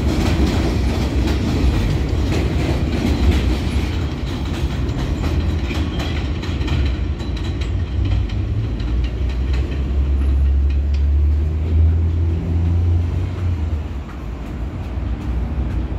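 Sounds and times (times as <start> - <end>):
train low rumble: 0.0 - 15.9
train wheels clicking over rail joints: 0.0 - 15.9.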